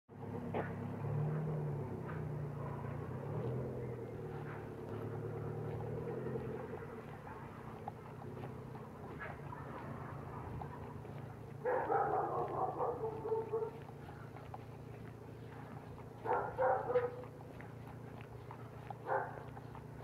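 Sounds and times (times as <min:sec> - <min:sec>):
vehicle engine running: 0:00.1 - 0:20.0.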